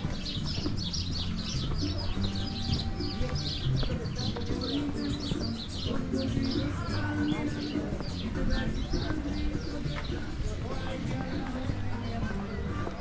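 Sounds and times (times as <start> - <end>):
flock of birds chirping: 0.0 - 13.0
murmur of voices: 0.0 - 13.0.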